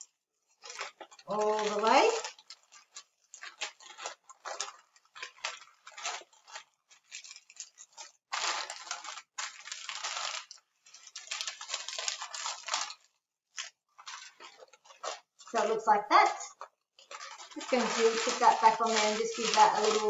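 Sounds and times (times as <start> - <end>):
baking paper crinkling: 0.0 - 20.0.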